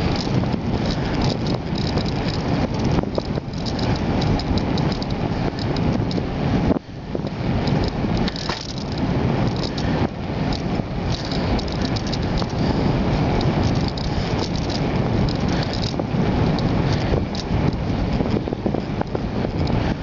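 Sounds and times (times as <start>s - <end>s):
light rattling over road: 0.0s - 20.0s
wind buffeting microphone: 0.0s - 20.0s.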